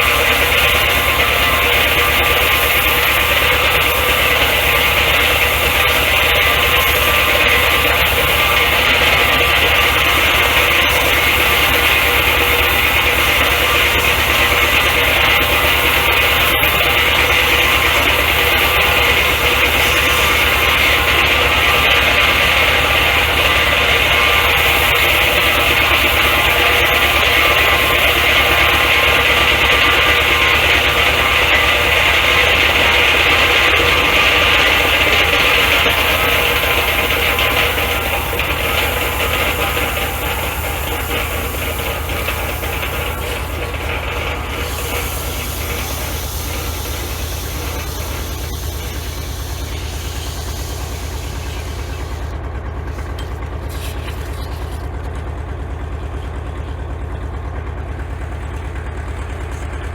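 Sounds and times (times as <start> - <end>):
sandpaper hissing on metal: 0.0 - 52.3, 52.9 - 55.1
engine running steadily: 0.0 - 59.9.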